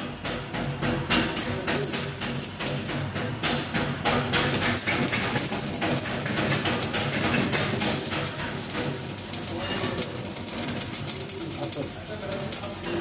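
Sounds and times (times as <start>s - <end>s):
welding arc crackling: 0.9s - 13.0s.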